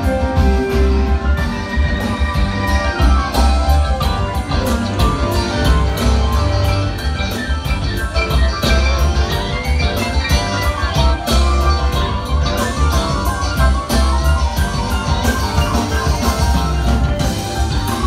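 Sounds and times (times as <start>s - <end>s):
drum kit beat: 0.0s - 18.0s
electric guitars: 0.0s - 18.0s
keyboards: 0.0s - 18.0s.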